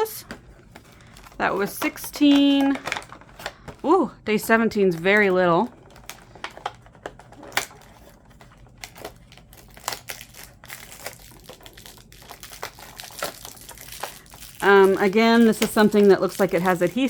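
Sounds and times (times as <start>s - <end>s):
cardboard packaging crinkling: 0.0s - 4.0s, 5.0s - 17.0s.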